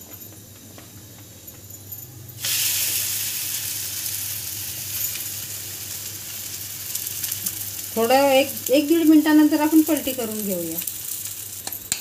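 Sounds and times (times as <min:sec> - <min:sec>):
oil sizzling on a hot pan: 0:02.4 - 0:12.0.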